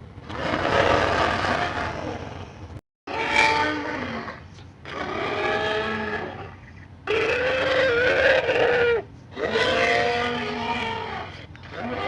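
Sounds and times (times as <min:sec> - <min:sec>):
deep creature calls: 0:00.3 - 0:12.0.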